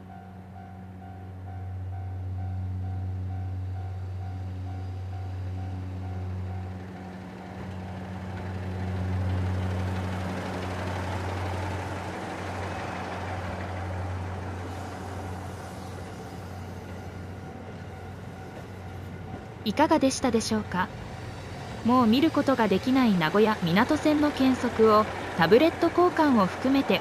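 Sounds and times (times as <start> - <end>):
diesel engine drone: 0.0 - 27.0
wheel and rail rumble: 0.0 - 27.0.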